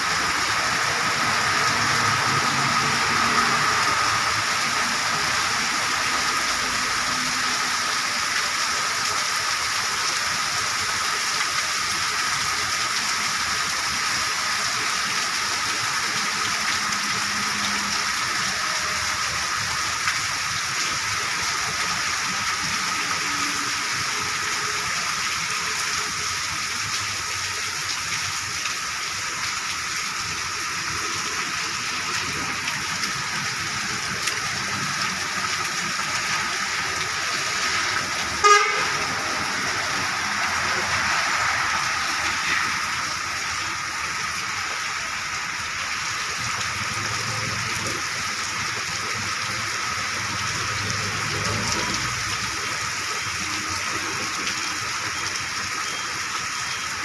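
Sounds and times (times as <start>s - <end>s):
heavy rain on wet pavement: 0.0s - 57.0s.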